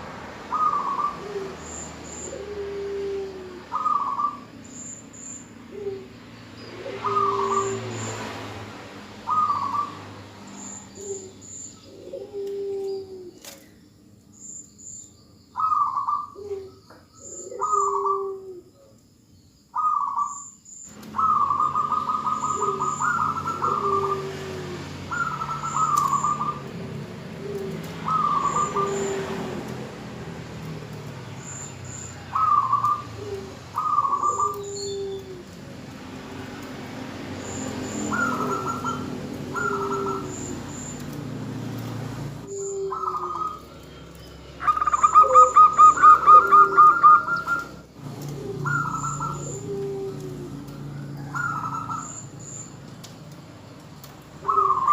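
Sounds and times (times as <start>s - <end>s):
dove cooing: 0.4s - 4.5s, 5.5s - 8.2s, 9.2s - 10.2s, 11.0s - 13.6s, 15.6s - 18.9s, 19.8s - 20.4s, 21.0s - 36.6s, 37.4s - 52.4s, 54.3s - 54.9s.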